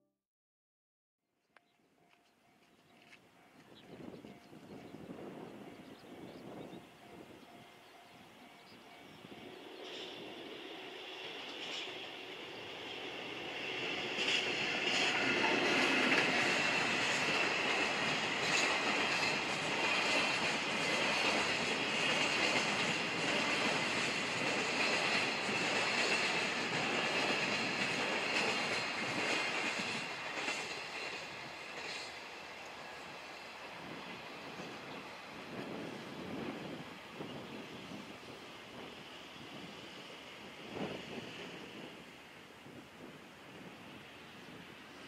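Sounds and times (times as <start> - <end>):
freight train rolling past: 2.0 - 45.0.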